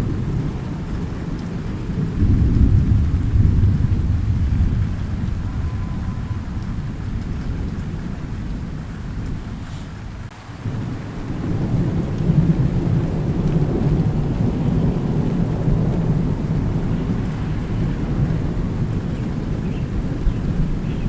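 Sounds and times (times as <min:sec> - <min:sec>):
deep rolling thunder: 0:00.0 - 0:21.0
steady rain: 0:00.0 - 0:21.0.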